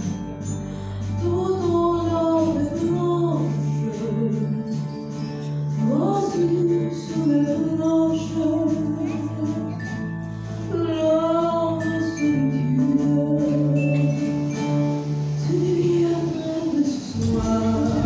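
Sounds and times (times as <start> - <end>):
bass notes: 0.0 - 18.0
live band playing: 0.0 - 18.0
woman singing: 1.1 - 18.0.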